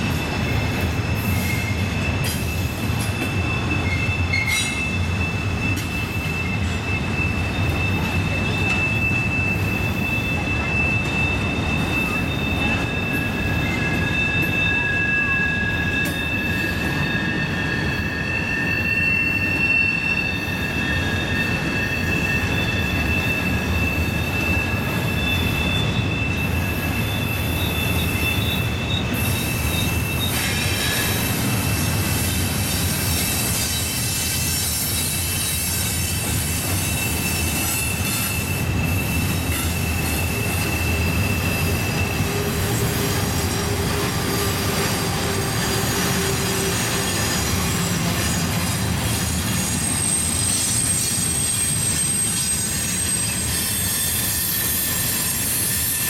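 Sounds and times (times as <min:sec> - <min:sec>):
high-pitched wheel squeal: 0:00.0 - 0:56.0
train wheels rumbling on rail: 0:00.0 - 0:56.0.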